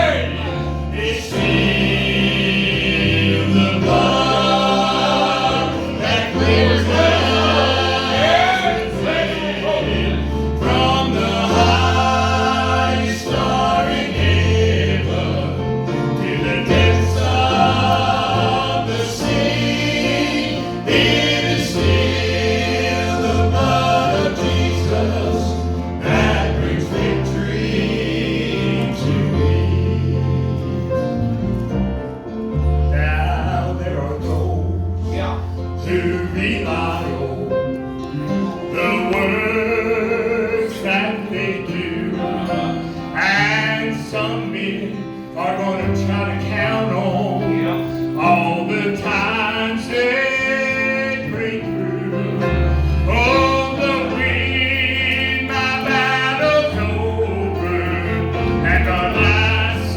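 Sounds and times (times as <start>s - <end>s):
vocal group singing in harmony: 0.0s - 31.3s, 32.9s - 59.9s.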